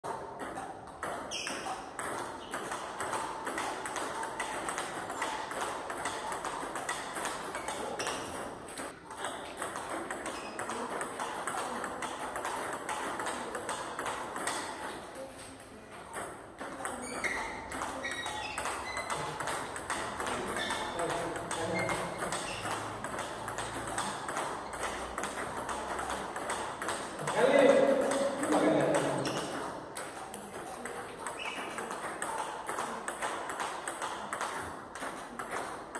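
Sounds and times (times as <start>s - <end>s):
ball bouncing on table: 0.1s - 15.3s, 16.0s - 35.9s
table tennis ball hitting rackets: 0.1s - 35.9s.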